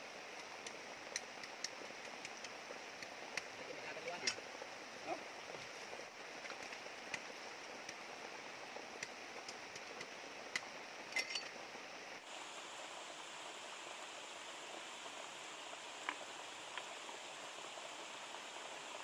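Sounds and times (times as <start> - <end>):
river water flowing over rocks: 0.0 - 19.0.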